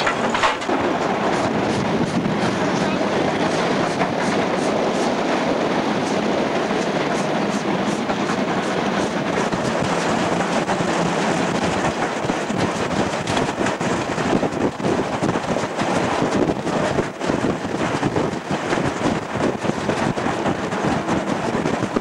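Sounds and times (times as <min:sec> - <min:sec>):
steam locomotive running: 0:00.0 - 0:22.0
wind buffeting microphone: 0:00.0 - 0:22.0.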